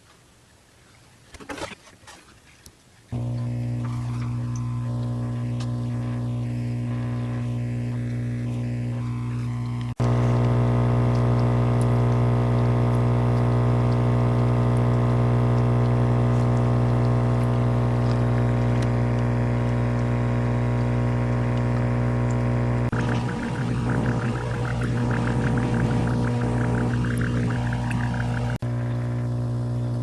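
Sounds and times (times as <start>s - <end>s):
machine humming: 3.1s - 30.0s.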